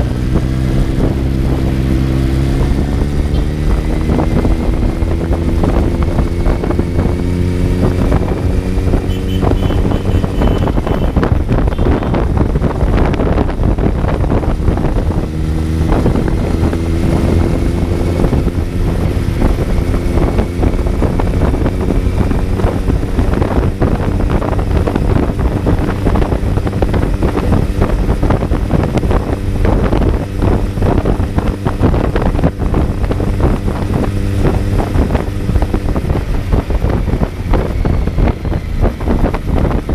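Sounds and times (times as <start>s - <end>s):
motorcycle engine accelerating: 0.0s - 39.9s
wind buffeting microphone: 0.0s - 39.9s.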